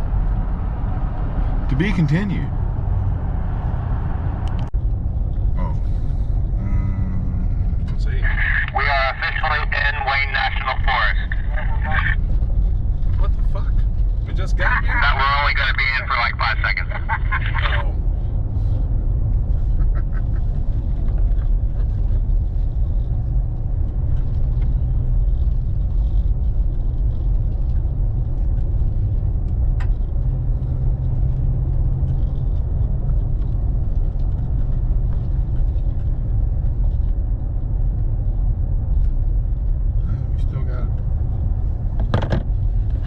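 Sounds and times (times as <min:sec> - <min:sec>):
car engine and road rumble: 0:00.0 - 0:43.0.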